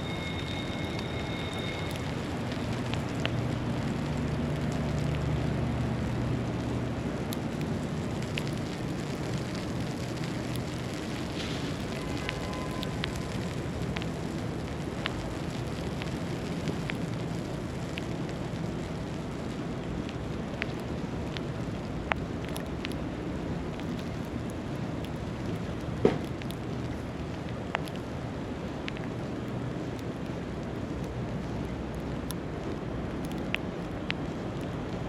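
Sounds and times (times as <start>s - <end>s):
faint ticks and crackles: 0.0s - 35.0s
low traffic rumble: 0.0s - 35.0s
steady rushing hiss: 0.0s - 35.0s.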